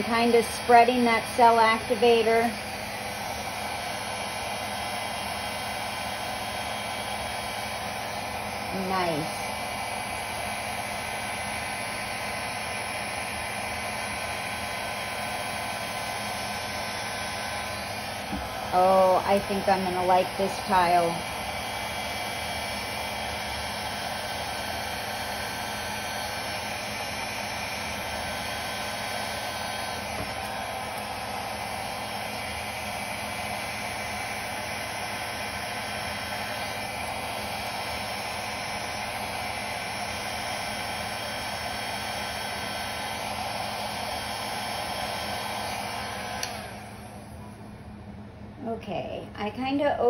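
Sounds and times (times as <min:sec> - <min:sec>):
hair dryer blowing air: 0:00.0 - 0:48.8, 0:49.4 - 0:50.0.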